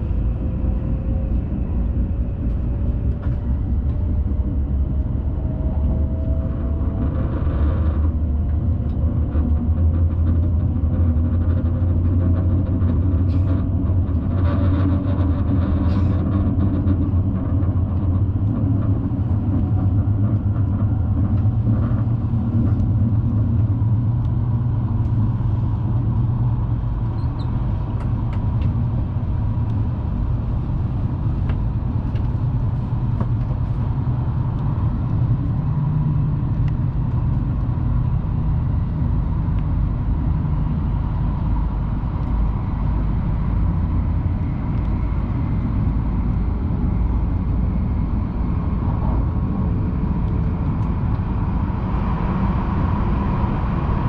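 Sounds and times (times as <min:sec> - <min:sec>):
train rumble inside cabin: 0:00.0 - 0:54.0.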